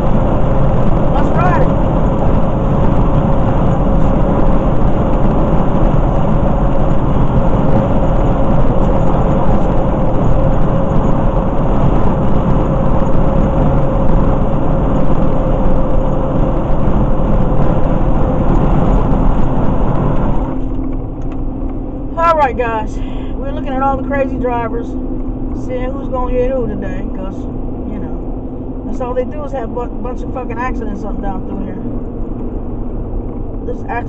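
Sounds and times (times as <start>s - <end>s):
steady hum: 0.0s - 34.0s
vehicle road and engine noise: 0.0s - 34.0s.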